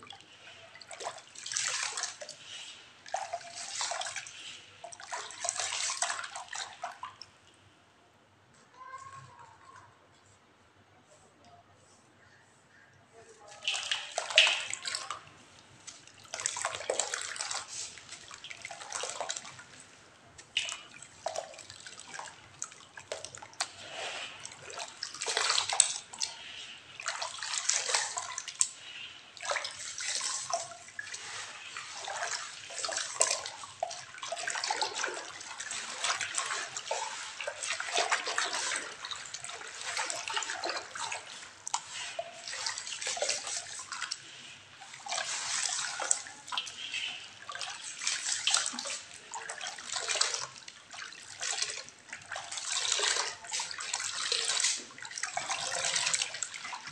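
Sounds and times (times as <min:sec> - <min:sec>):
water sloshing and splashing: 0:00.0 - 0:07.6, 0:13.2 - 0:56.9.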